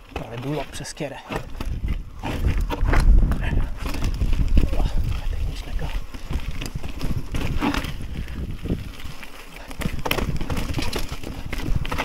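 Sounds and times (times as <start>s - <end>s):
mountain bike rattling and knocking: 0.0s - 12.0s
wind rumbling on microphone: 0.0s - 12.0s.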